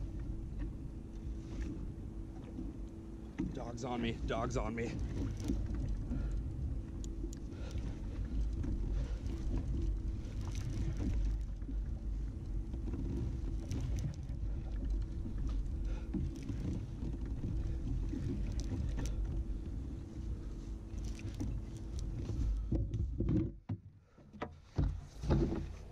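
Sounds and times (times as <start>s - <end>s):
low rumble: 0.0s - 23.3s.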